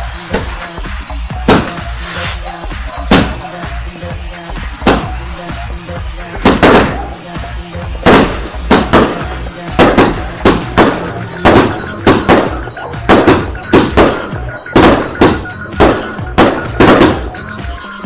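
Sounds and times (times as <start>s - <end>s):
instrumental music with heavy beat: 0.0s - 18.0s.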